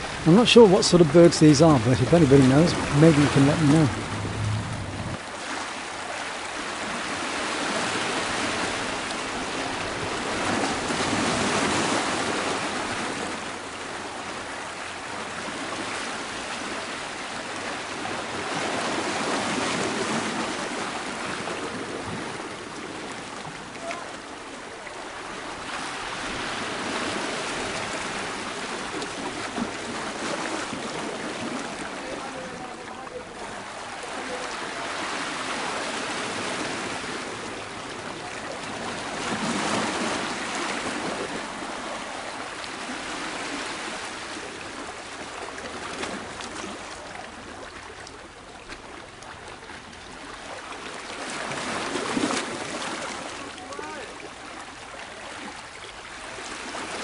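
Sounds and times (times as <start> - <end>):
sea surf washing against rocks: 0.0 - 57.0.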